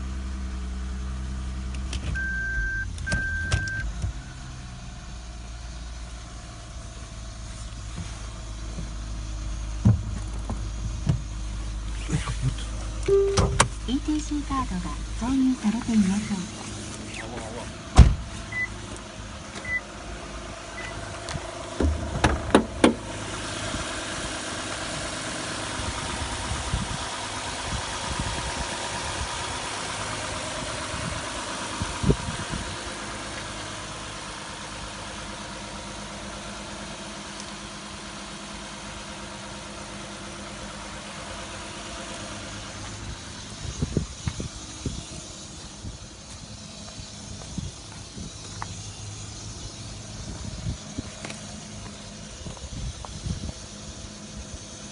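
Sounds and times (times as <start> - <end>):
car engine cranking: 0.0 - 54.9
car engine idling: 0.0 - 54.9.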